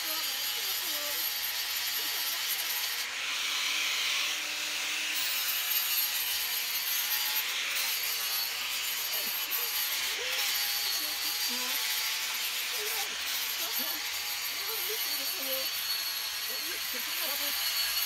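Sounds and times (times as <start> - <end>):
power sander on wood: 0.0 - 18.0.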